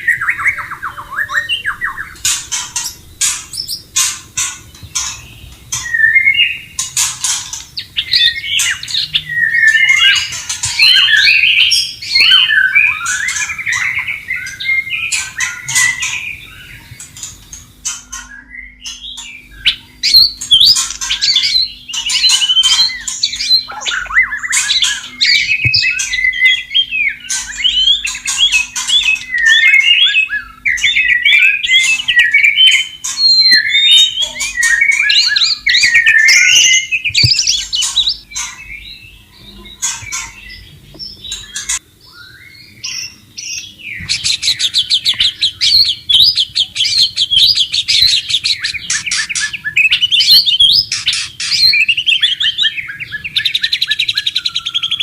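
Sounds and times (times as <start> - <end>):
bird singing whistled phrases: 0.0 - 2.2, 5.8 - 6.7, 7.8 - 16.9, 18.0 - 55.0.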